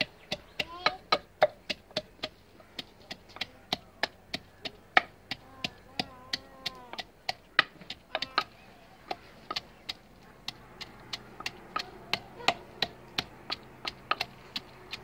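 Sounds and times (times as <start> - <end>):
pestle pounding in a mortar: 0.0 - 15.0.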